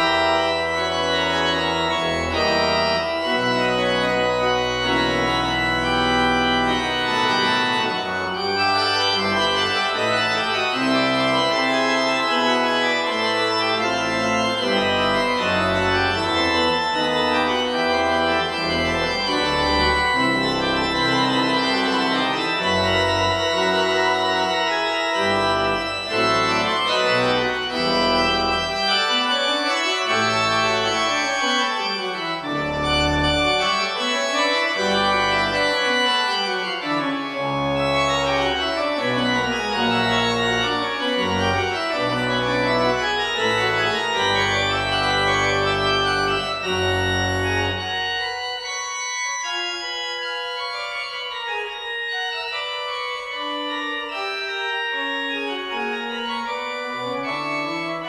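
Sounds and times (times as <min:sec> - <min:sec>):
church organ playing: 0:00.0 - 0:58.0.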